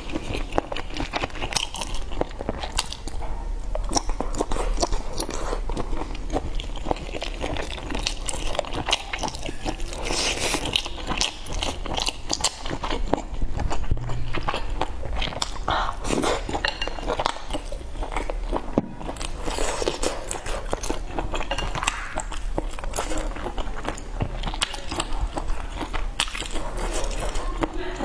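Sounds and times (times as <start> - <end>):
chewing and biting food: 0.0 - 28.0.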